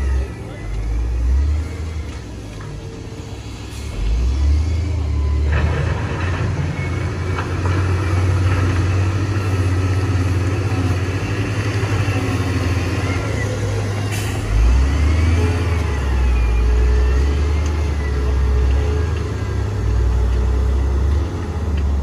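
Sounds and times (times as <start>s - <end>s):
heavy diesel engine revving: 3.1s - 22.0s.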